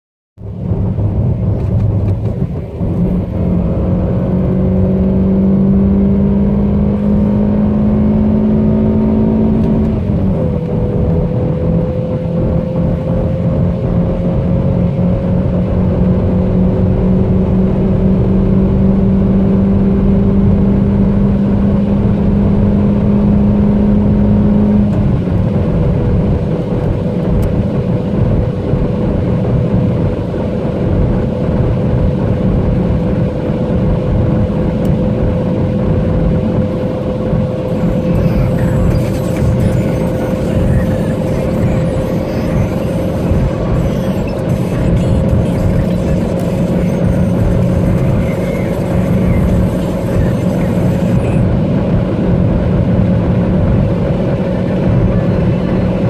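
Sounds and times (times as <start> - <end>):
car engine accelerating hard: 0.4 - 56.0
road and wind noise: 0.4 - 56.0.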